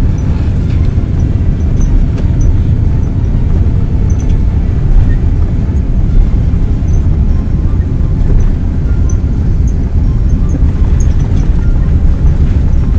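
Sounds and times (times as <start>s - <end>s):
jet engine and runway rumble: 0.0s - 12.9s.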